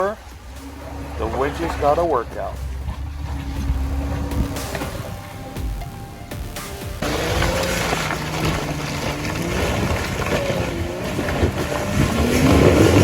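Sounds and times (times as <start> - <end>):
wind buffeting microphone: 0.0 - 6.0, 7.0 - 13.0
car engine revving: 0.0 - 13.0.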